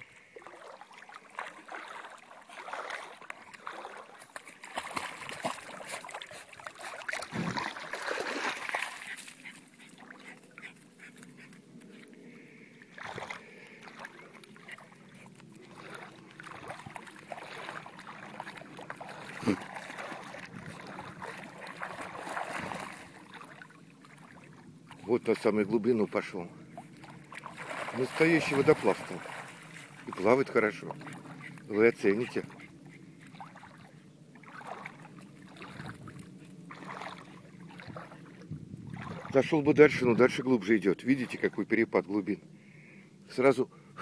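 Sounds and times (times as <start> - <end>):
dog splashing in water: 0.4 - 12.1, 12.9 - 25.6, 26.2 - 39.5.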